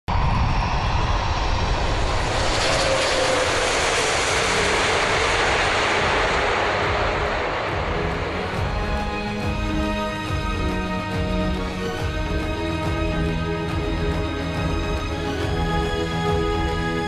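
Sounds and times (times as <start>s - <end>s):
jet engine rush: 0.1s - 17.0s.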